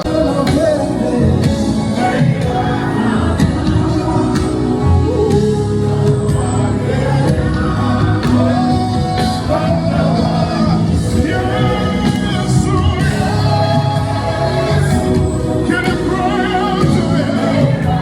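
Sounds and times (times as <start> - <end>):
band playing steady beat: 0.0 - 18.0.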